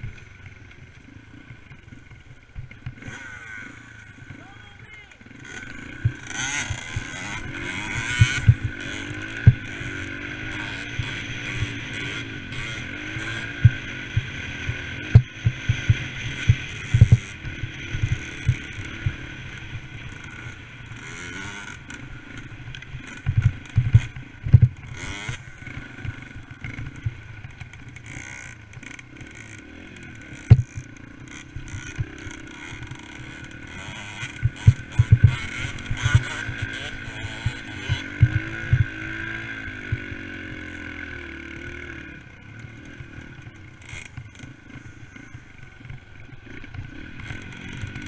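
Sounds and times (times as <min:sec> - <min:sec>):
dirt bike engine running: 0:00.0 - 0:48.0.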